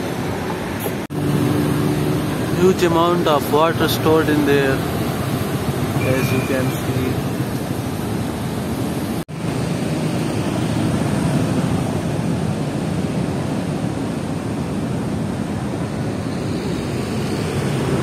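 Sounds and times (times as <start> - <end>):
turbulent water rushing: 0.2 - 18.0.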